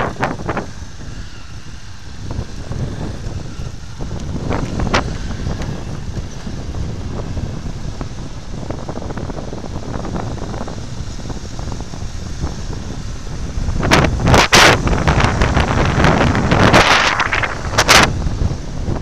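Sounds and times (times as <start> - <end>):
motorcycle engines running: 0.0 - 19.0
wind buffeting microphone: 0.0 - 19.0.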